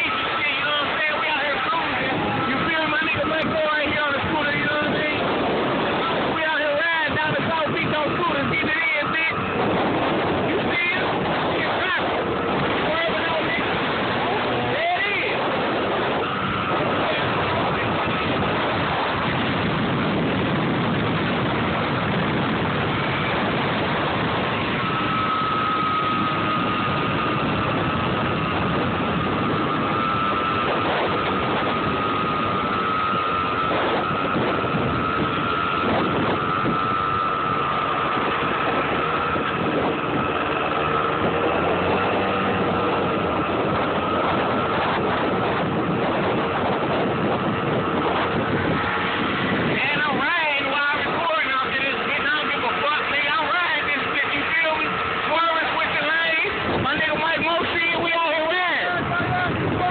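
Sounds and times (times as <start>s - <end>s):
steady high whine: 0.0s - 59.9s
street traffic: 0.0s - 59.9s.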